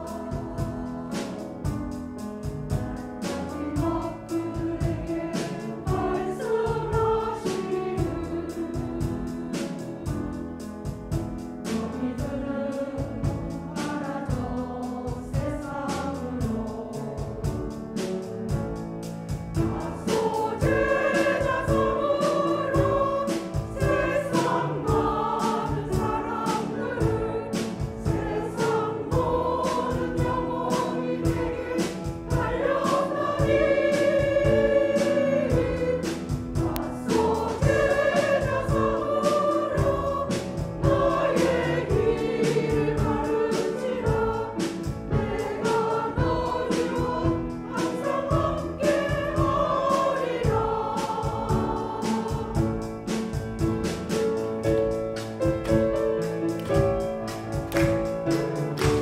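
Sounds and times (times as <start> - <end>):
rhythmic instrumental accompaniment: 0.0 - 59.0
women's choir singing a hymn: 0.0 - 59.0.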